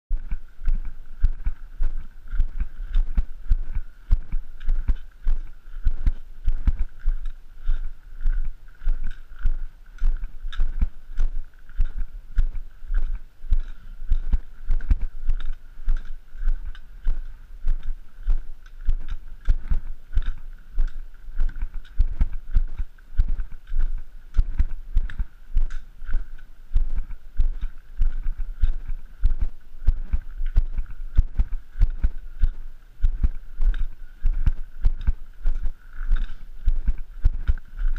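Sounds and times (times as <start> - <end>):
footsteps on gravel: 0.1 - 37.9.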